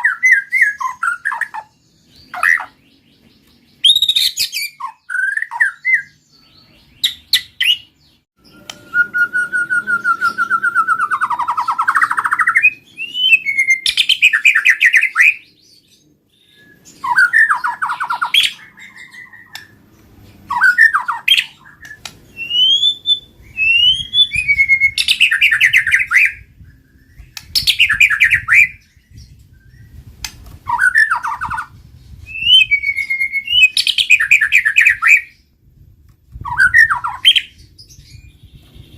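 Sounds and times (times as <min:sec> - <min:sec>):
bird singing whistled phrases: 0:00.0 - 0:02.8, 0:03.8 - 0:19.8, 0:20.5 - 0:30.0, 0:30.6 - 0:35.4, 0:36.4 - 0:38.9.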